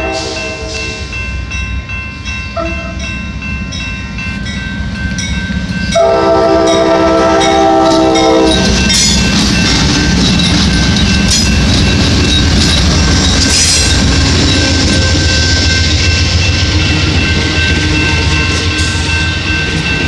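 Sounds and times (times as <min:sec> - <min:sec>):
passenger train passing: 0:00.0 - 0:20.0.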